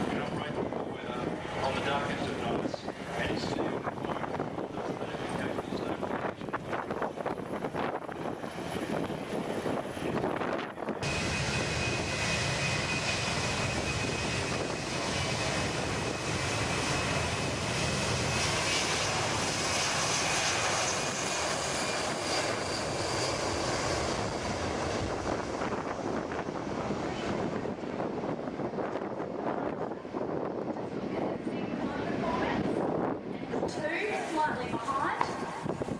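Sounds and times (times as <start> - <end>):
aircraft engine roar with whine: 0.0 - 35.9
wind noise: 0.0 - 35.9.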